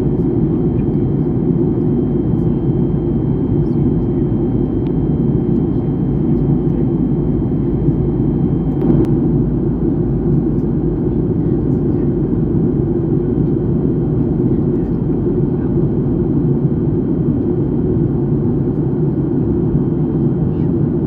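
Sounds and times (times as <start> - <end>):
airliner cabin engine rush: 0.0 - 21.0.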